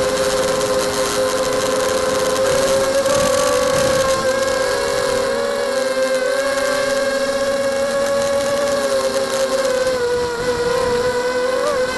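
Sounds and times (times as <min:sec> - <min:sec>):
drone motors whining: 0:00.0 - 0:11.9.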